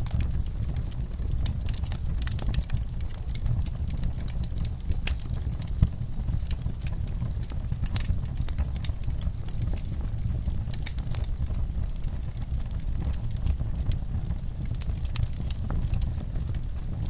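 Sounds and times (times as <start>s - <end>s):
fire popping: 0.0s - 17.0s
low rumble of flames: 0.0s - 17.0s
wood fire crackling: 0.0s - 17.0s.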